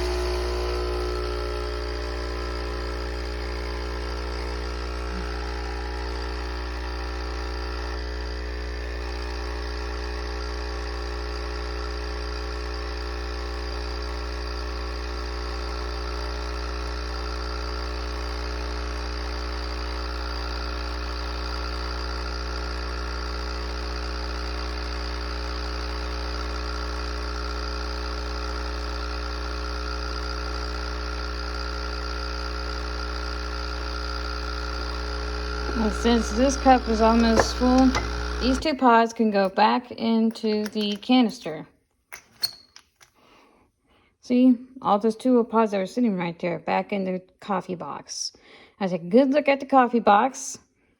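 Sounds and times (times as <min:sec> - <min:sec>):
espresso machine pump humming: 0:00.0 - 0:41.4.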